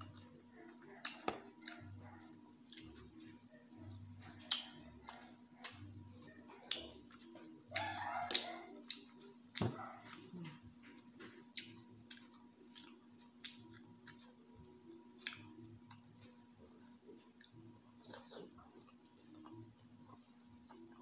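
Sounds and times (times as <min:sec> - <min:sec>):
low steady hum: 0:00.0 - 0:21.0
person chewing: 0:00.0 - 0:21.0.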